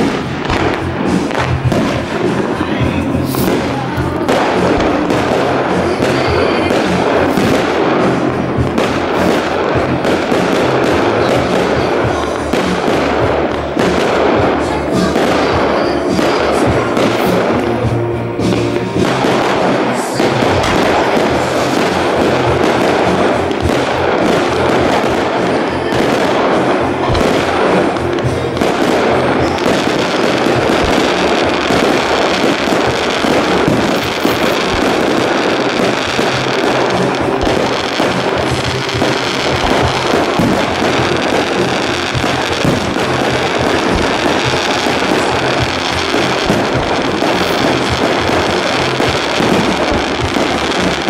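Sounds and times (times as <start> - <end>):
fireworks bursting: 0.0 - 51.0
music playing: 0.0 - 51.0.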